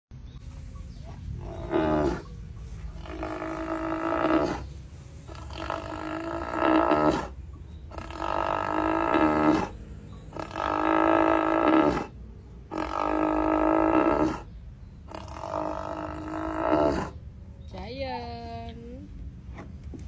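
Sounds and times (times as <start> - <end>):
low rumble: 0.1 - 20.0
cow snoring calls: 0.5 - 17.3.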